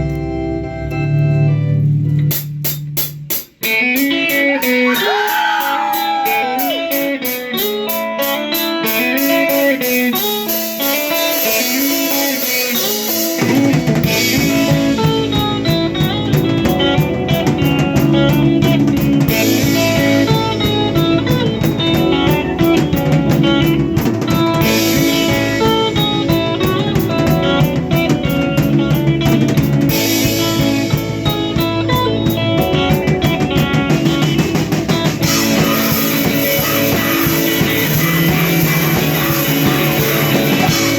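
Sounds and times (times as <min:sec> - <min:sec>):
bass guitar: 0:00.0 - 0:40.9
drums: 0:00.0 - 0:40.9
guitar picking melody: 0:00.0 - 0:40.9.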